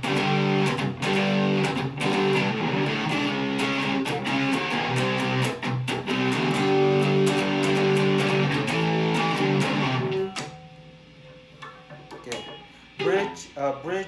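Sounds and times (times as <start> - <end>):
electric guitar chords and notes: 0.0 - 13.5.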